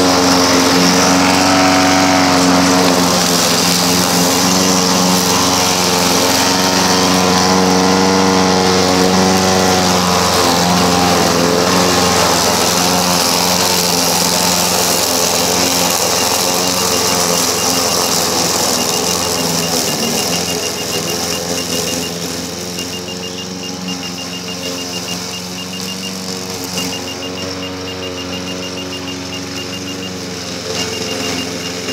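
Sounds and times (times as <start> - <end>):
lawn mower engine running: 0.0 - 31.9.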